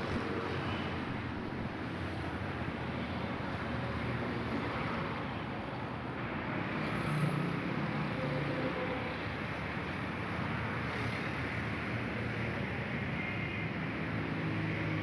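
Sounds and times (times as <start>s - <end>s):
cars and motorbikes passing: 0.0s - 15.0s.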